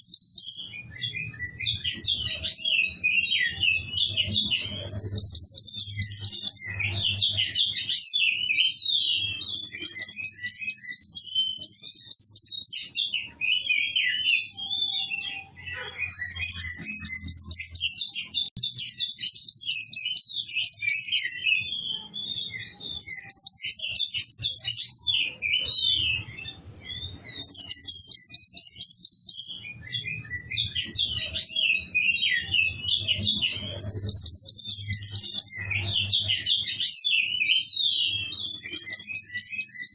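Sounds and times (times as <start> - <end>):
songbird trilling and warbling: 0.0 - 39.9.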